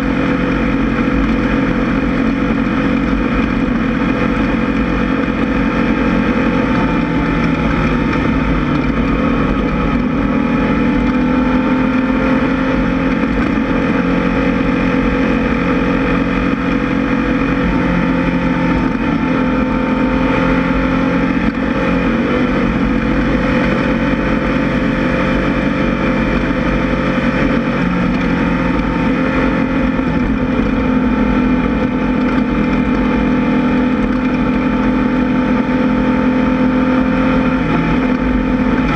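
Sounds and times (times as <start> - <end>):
buggy engine running hard: 0.0 - 38.9.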